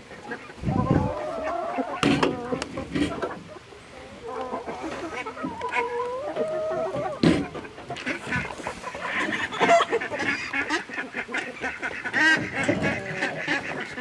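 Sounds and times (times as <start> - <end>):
poultry calling: 0.0 - 14.0.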